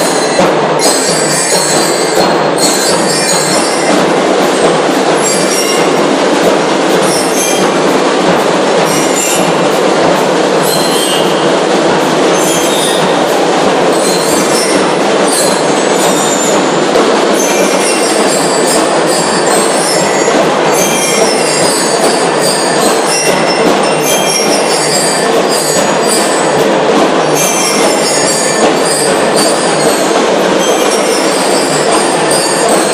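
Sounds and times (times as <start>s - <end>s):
bell lyres ringing: 0.0s - 32.9s
marching drums: 0.0s - 32.9s.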